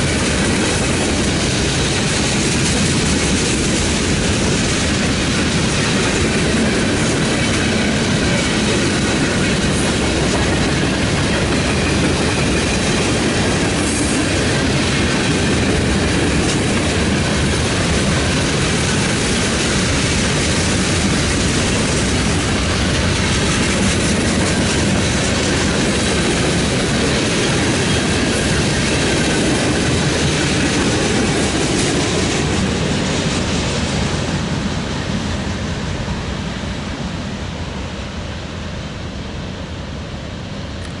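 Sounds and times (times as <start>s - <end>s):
steel wheels on rails: 0.0s - 37.3s.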